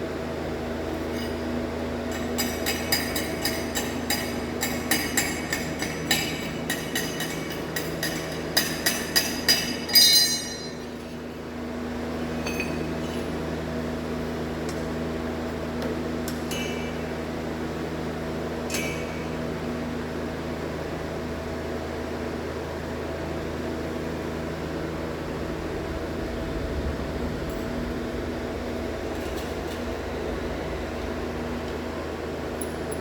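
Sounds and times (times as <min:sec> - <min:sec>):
machine hum: 0:00.0 - 0:33.0.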